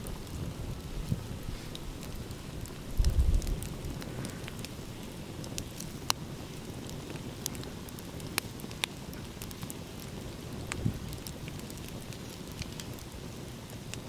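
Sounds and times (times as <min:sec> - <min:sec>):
low fire rumble: 0:00.0 - 0:14.0
sharp fire pops: 0:00.0 - 0:14.0
wood fire crackling: 0:00.0 - 0:14.0.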